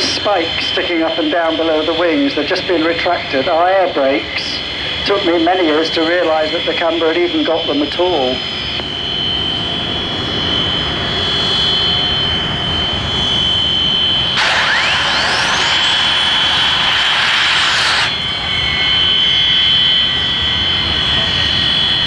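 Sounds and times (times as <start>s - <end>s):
steady high jet whine: 0.0s - 22.0s
turbine whine sweeping up: 0.0s - 22.0s.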